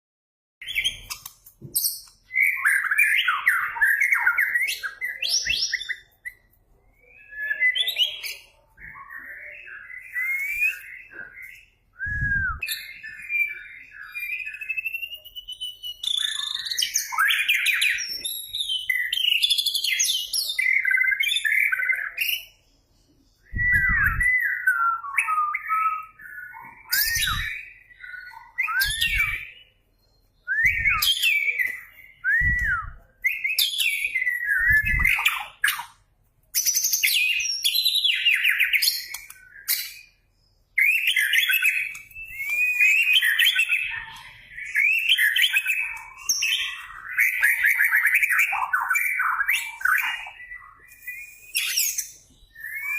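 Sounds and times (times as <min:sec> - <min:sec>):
songbird whistling phrases: 0:01.8 - 0:22.6, 0:23.2 - 0:35.9, 0:36.6 - 0:52.9.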